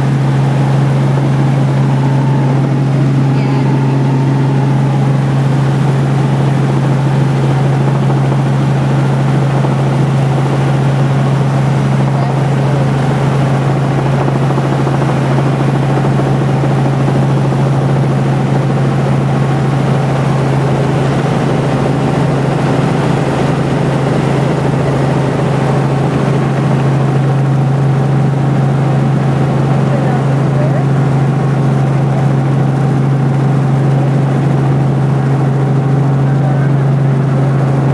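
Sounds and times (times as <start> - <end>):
helicopter drone: 0.0 - 37.9.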